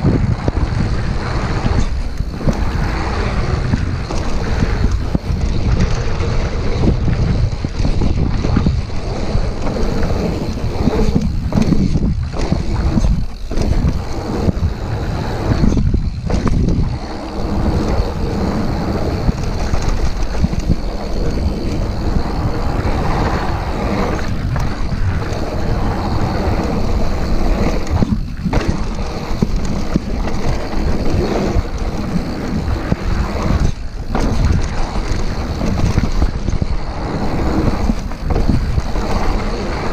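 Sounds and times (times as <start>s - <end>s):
bike tyres rumbling over dirt: 0.0s - 39.9s
wind buffeting microphone: 0.0s - 39.9s.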